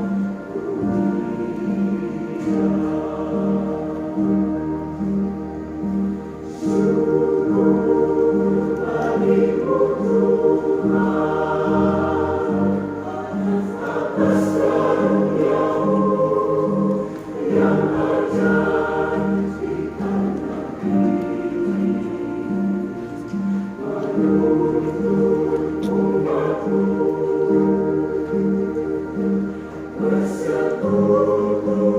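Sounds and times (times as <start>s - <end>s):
mixed choir singing: 0.0s - 31.9s.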